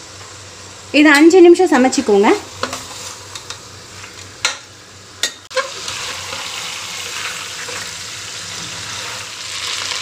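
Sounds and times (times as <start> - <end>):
chicken sizzling in oil: 1.9 - 10.0.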